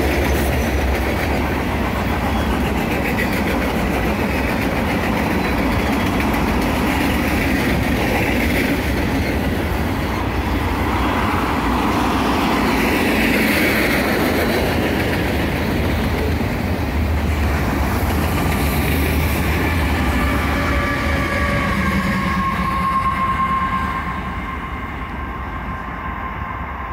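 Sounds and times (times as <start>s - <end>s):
train wheels rumbling and clacking: 0.0s - 26.5s
diesel locomotive drone: 0.0s - 26.9s.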